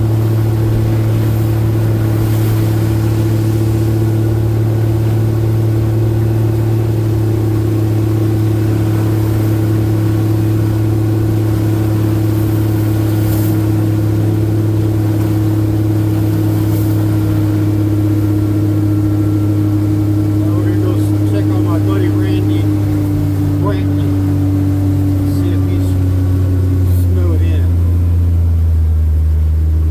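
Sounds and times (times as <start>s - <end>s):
road noise: 0.0s - 29.9s
vehicle engine humming: 0.0s - 29.9s.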